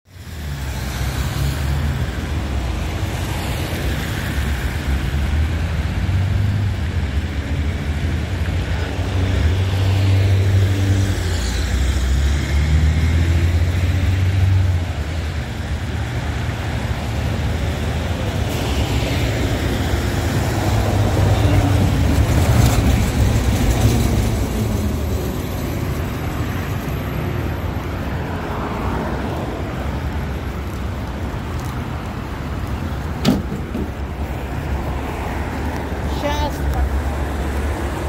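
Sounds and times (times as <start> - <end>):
cars passing on road: 0.1 - 38.0.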